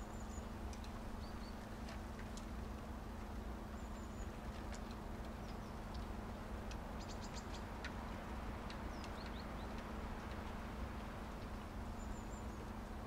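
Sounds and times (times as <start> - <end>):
faint low hum: 0.0 - 13.0
small birds chirping: 0.0 - 13.0
steady low hiss: 0.0 - 13.0.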